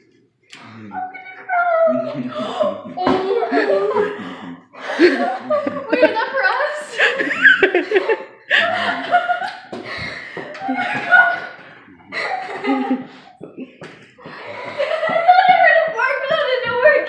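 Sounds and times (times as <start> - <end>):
people laughing and exclaiming: 0.6 - 17.0.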